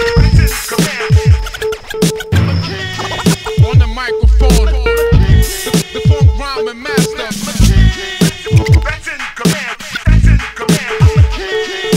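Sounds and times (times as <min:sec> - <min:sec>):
hip hop beat: 0:00.0 - 0:11.9
vocal sounds: 0:00.0 - 0:11.9.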